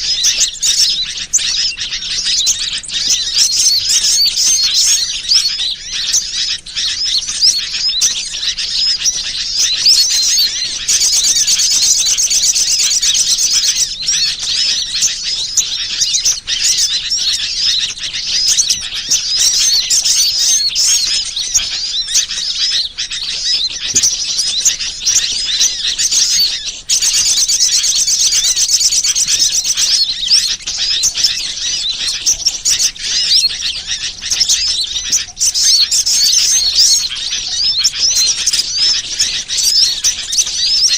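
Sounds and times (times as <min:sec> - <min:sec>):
fast buzzy bird trill: 0:00.0 - 0:40.9
small birds chirping: 0:00.0 - 0:40.9.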